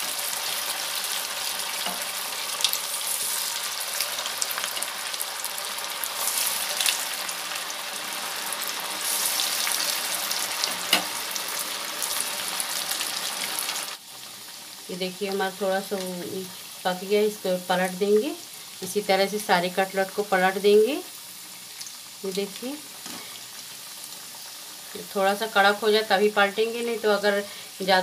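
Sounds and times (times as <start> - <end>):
food deep-frying in oil: 0.0 - 28.0.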